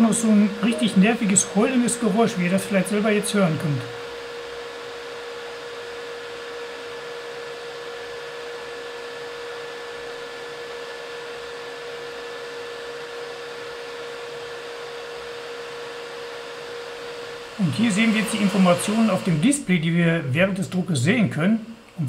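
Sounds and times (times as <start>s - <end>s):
printer fans and motors whirring: 0.0s - 22.0s.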